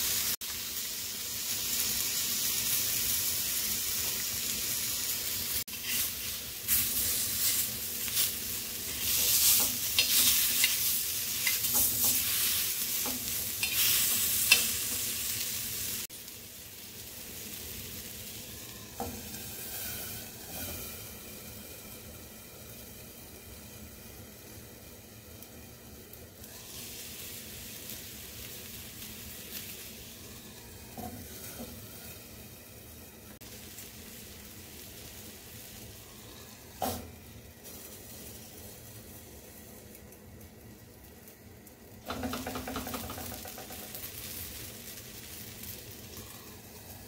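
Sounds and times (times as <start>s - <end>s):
chicken sizzling in a pan: 0.0s - 47.0s.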